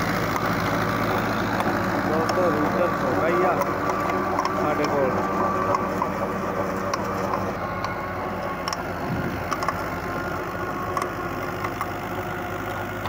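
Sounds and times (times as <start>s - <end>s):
rotavator churning soil: 0.0s - 13.0s
tractor diesel engine running: 0.0s - 13.0s
sharp ticks: 0.1s - 9.9s, 10.8s - 12.0s.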